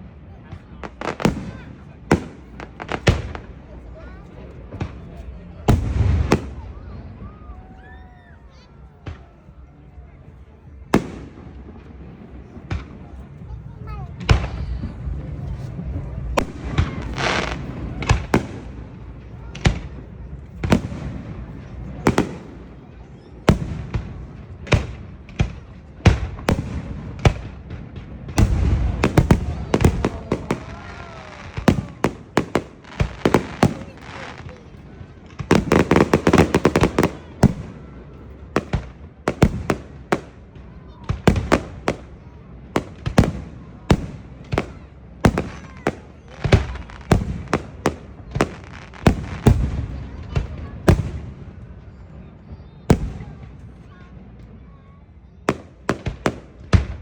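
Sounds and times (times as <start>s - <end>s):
fireworks bangs: 0.0s - 7.8s, 8.5s - 57.0s
fireworks crackling and rumbling: 0.0s - 57.0s.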